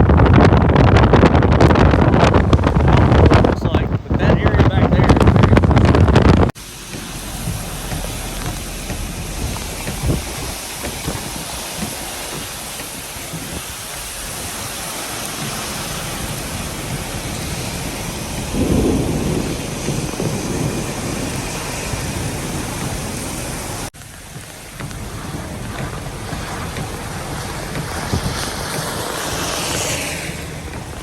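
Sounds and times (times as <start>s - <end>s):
heavy rain beating on vehicle: 0.0s - 31.0s
storm wind on vehicle: 0.0s - 31.0s.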